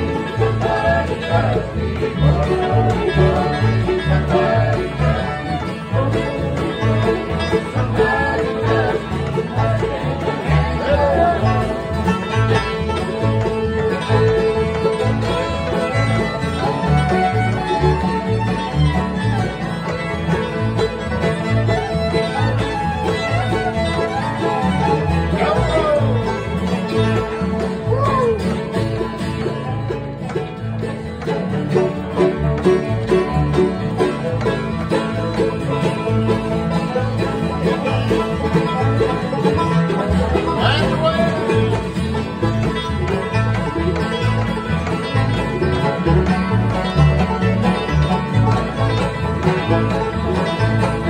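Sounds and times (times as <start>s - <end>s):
acoustic bluegrass jam: 0.0s - 51.0s
bass alternating two notes: 0.0s - 51.0s
picked strings: 0.0s - 51.0s.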